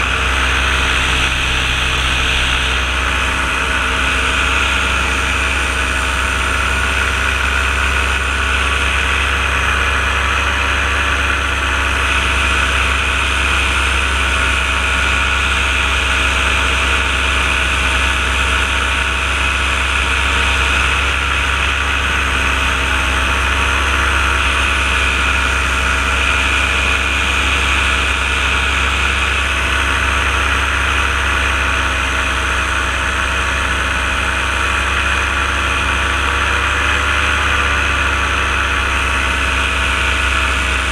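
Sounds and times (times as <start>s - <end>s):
paramotor engine drone: 0.0s - 40.9s.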